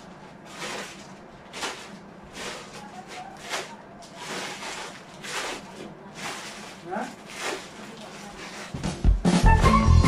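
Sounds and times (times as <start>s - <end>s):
plastic and cardboard rustling: 0.0s - 9.0s.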